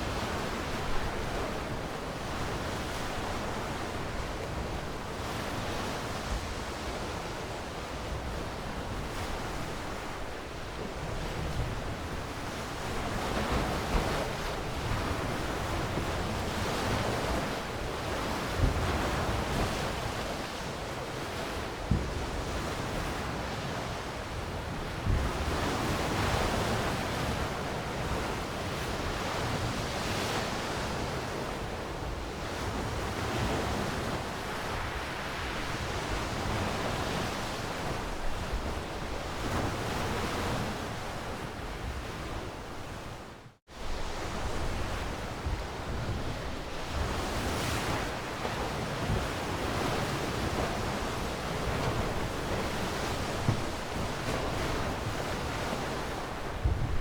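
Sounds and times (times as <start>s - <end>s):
ocean waves washing on shore: 0.0s - 57.0s.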